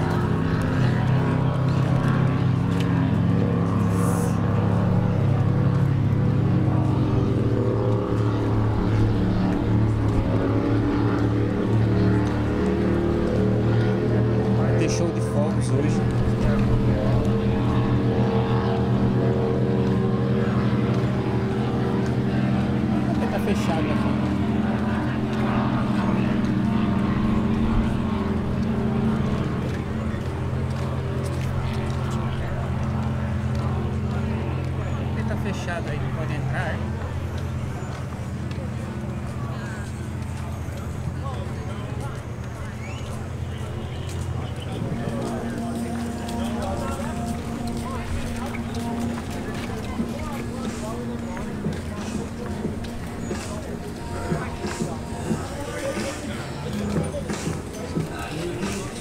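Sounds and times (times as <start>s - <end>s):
powerboat engines droning: 0.0s - 59.0s.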